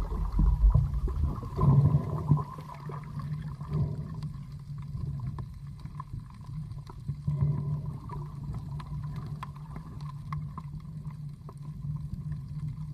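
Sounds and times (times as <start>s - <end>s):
small underwater clicks: 0.0s - 12.9s
underwater low drone: 0.0s - 12.9s.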